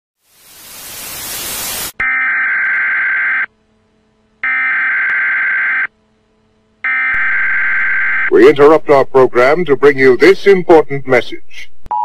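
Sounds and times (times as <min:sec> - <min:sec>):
tv static hiss: 0:00.2 - 0:04.2, 0:05.0 - 0:11.9.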